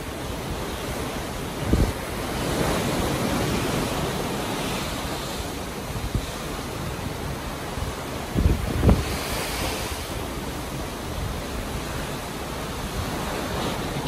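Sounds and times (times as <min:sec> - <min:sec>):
sea water rushing along ship hull: 0:00.0 - 0:14.0
wind on microphone: 0:00.0 - 0:14.0.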